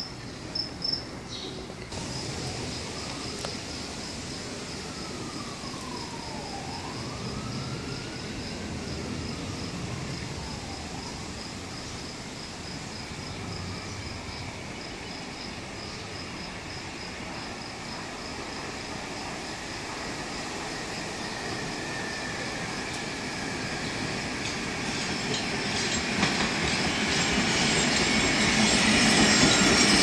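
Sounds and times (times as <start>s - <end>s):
subway train rumbling: 0.0s - 30.0s
distant siren wailing: 1.9s - 15.8s, 16.6s - 30.0s.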